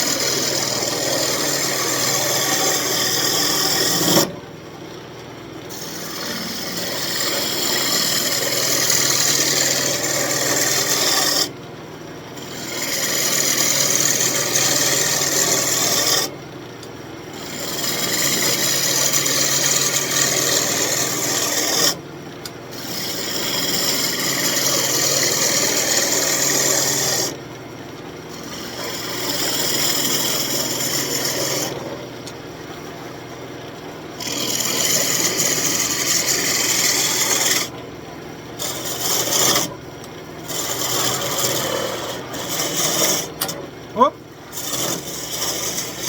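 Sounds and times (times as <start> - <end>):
hand tool scraping spinning wood: 0.0 - 4.4, 5.7 - 11.6, 12.4 - 16.3, 17.3 - 22.0, 22.7 - 27.4, 28.3 - 32.1, 34.1 - 37.7, 38.6 - 39.8, 40.4 - 46.0
wood lathe humming: 0.0 - 4.4, 5.7 - 11.6, 12.4 - 16.4, 17.3 - 22.0, 22.7 - 27.4, 28.3 - 32.4, 34.1 - 37.8, 38.6 - 46.0.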